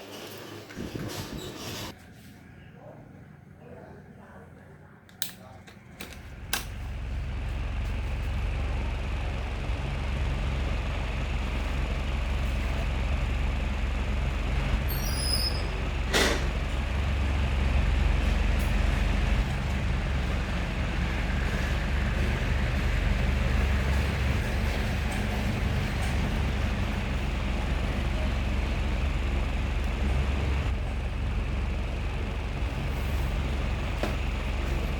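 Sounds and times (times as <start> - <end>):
ceiling fan running: 0.0 - 34.9.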